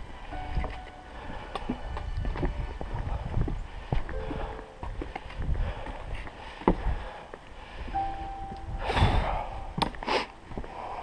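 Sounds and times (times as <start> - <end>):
footsteps on wooden planks: 0.0 - 11.0
person breathing: 0.1 - 11.0.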